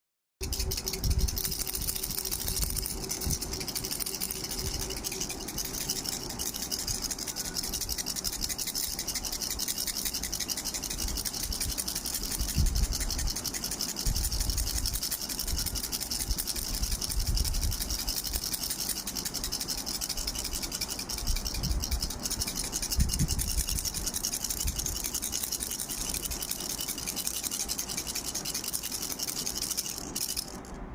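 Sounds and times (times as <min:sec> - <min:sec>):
baby rattle shaken: 0:00.4 - 0:30.9.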